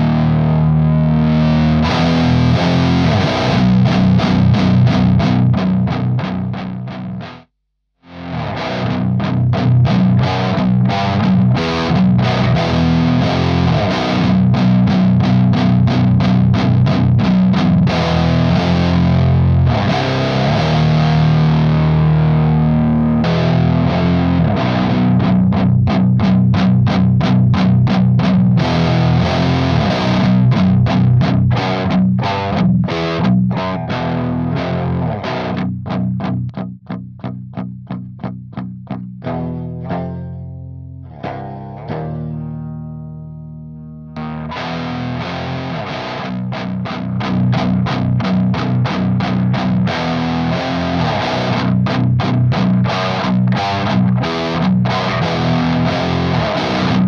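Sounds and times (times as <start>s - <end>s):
distorted electric guitar riff: 0.0s - 57.0s.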